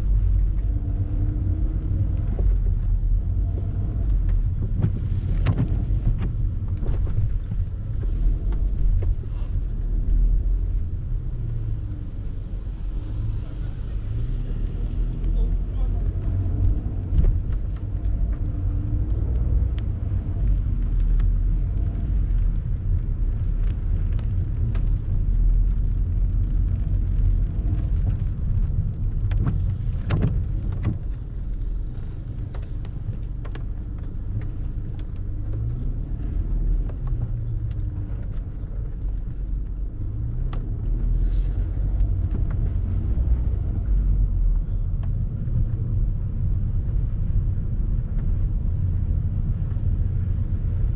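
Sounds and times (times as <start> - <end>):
passing traffic rumble: 0.0 - 50.9.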